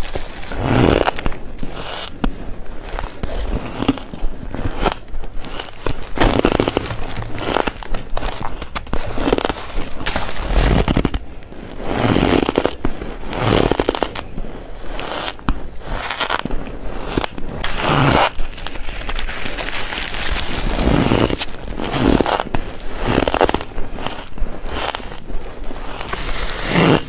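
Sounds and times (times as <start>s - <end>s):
crunching ice being chewed: 0.0s - 27.0s.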